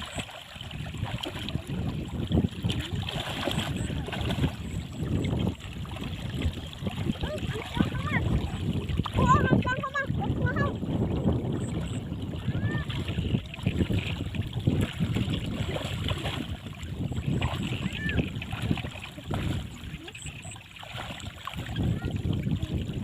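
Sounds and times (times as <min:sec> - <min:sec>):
floodwater splashing and sloshing: 0:00.0 - 0:23.0.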